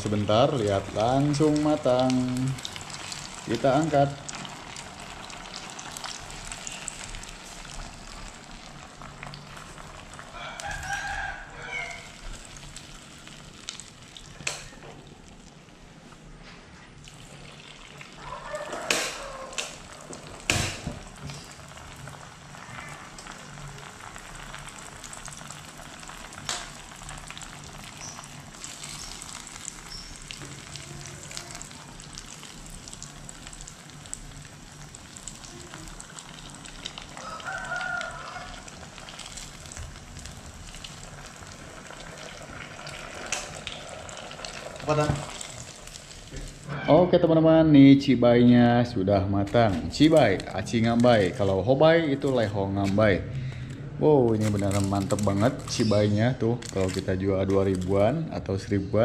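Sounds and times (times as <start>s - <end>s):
hot oil sizzling: 0.0s - 46.8s, 48.3s - 53.4s, 54.0s - 58.3s.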